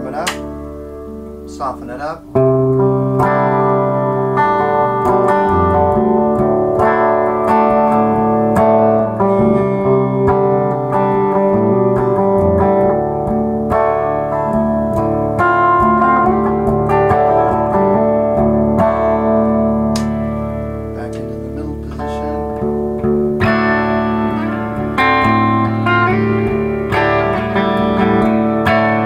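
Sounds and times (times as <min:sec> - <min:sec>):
clean electric guitar playing: 0:00.0 - 0:29.0.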